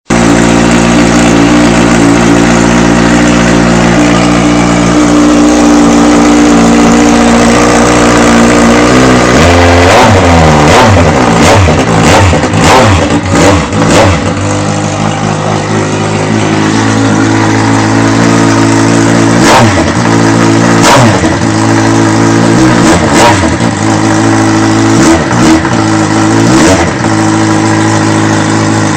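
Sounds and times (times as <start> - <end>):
motorcycle engine revving: 0.1 - 28.9.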